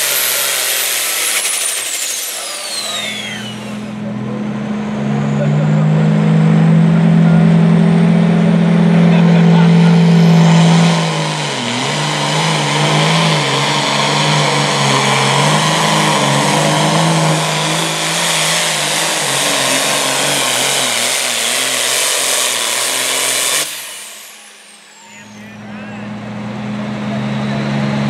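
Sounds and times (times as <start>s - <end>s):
tractor diesel engine at full throttle: 0.0s - 28.0s.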